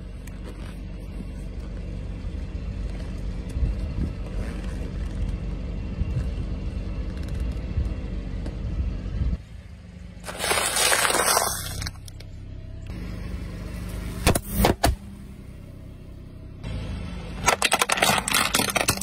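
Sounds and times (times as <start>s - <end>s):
car engine idling: 0.0s - 11.0s, 11.7s - 19.0s.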